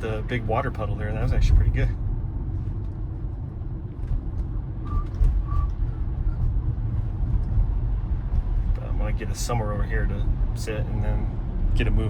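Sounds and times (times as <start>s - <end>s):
road and tyre noise: 0.0s - 12.0s.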